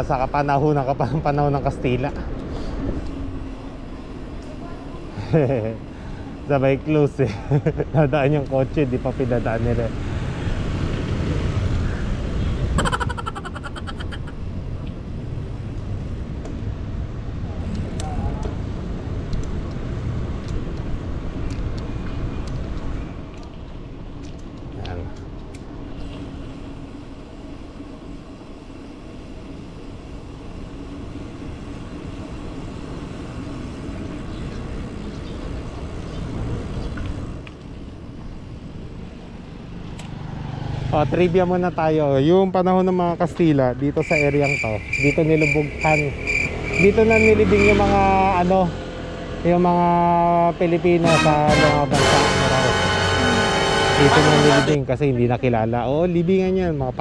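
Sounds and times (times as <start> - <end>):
wind and road rumble: 0.0 - 51.9
street traffic noise: 0.0 - 57.0.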